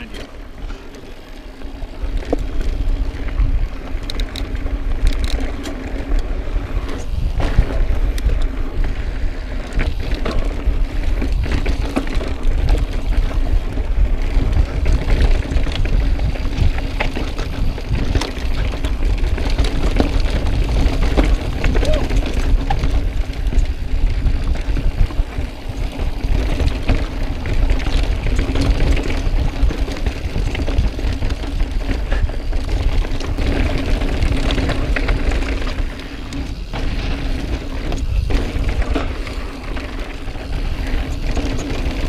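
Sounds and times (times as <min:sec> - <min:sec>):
tyres crunching and frame rattling: 0:00.0 - 0:42.0
wheels knocking on rocks: 0:00.0 - 0:42.0
wind buffeting microphone: 0:00.0 - 0:42.0.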